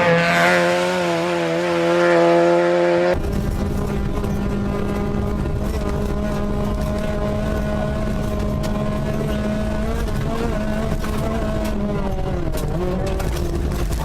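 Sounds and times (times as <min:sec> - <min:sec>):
rally car engine running hard: 0:00.0 - 0:14.0.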